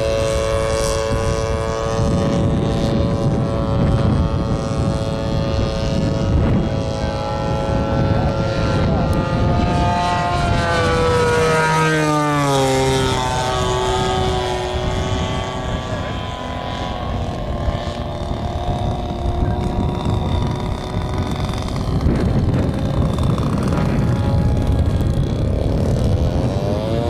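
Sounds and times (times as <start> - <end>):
model plane engine droning: 0.0 - 27.0.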